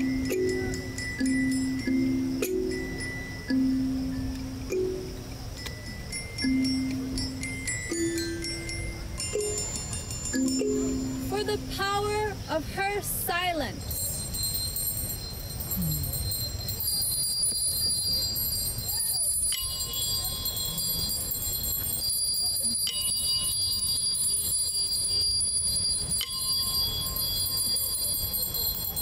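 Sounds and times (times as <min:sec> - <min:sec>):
hand bell ringing: 0:00.0 - 0:03.6, 0:05.5 - 0:11.6, 0:13.7 - 0:29.0.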